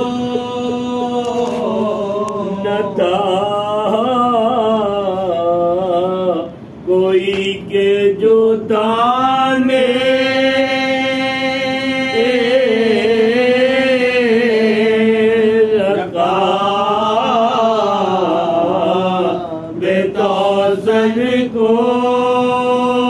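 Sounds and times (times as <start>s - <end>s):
men chanting unaccompanied elegy: 0.0s - 23.0s.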